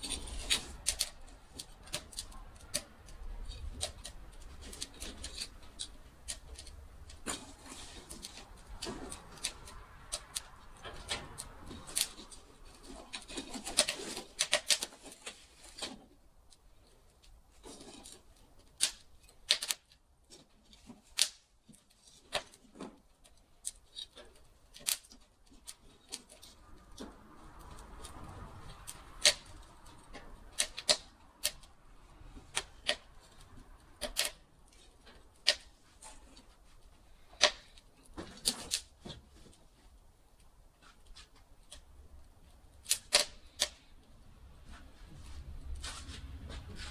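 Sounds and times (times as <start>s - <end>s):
wood fire crackling and popping: 0.0s - 39.5s, 41.6s - 44.0s.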